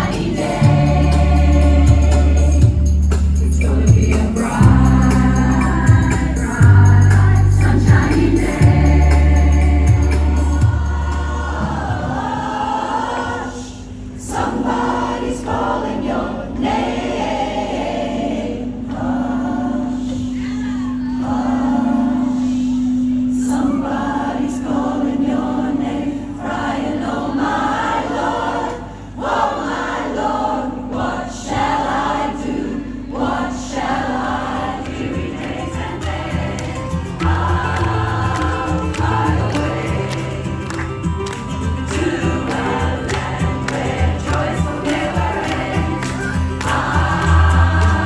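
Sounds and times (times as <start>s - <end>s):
choir singing in harmony: 0.0s - 48.0s.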